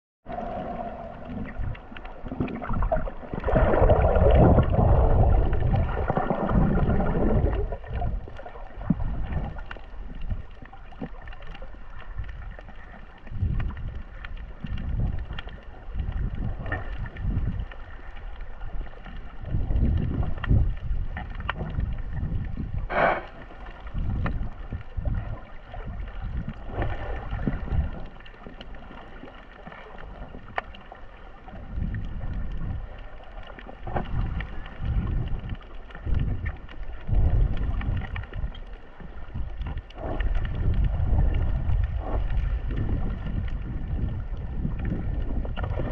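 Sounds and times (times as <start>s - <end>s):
muffled underwater water swirls: 0.2s - 45.9s.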